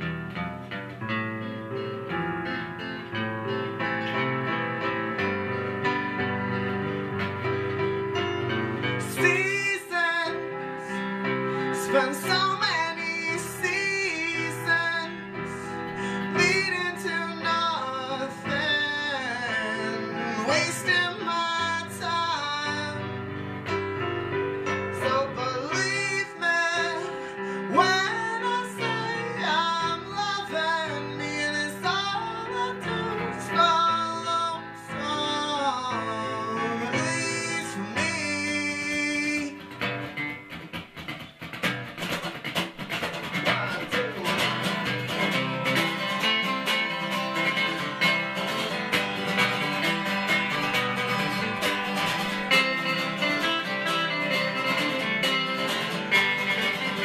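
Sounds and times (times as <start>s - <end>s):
acoustic guitar strumming: 0.0s - 57.0s
keyboard melody: 0.0s - 57.0s.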